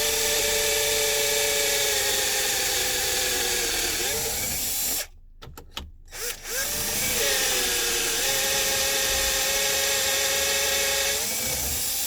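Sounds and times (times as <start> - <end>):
electric drill whining: 0.0 - 5.1, 6.2 - 12.0.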